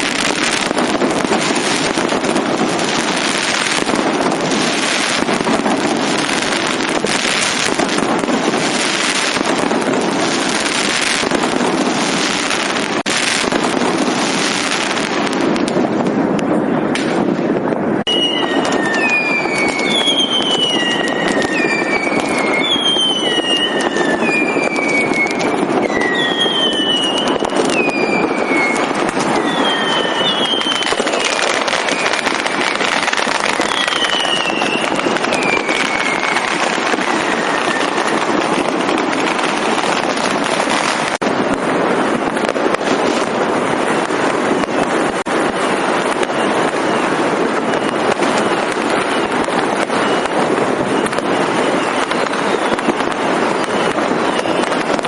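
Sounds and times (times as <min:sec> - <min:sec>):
fireworks crackling and banging: 0:00.0 - 0:55.0
whistling fireworks: 0:00.0 - 0:55.0.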